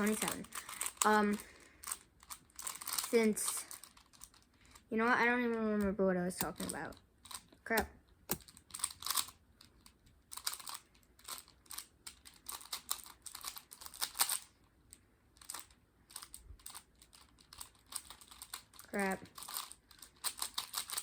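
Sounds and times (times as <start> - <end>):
plastic puzzle cube clicking: 0.0 - 4.8, 5.8 - 14.5, 15.4 - 21.0.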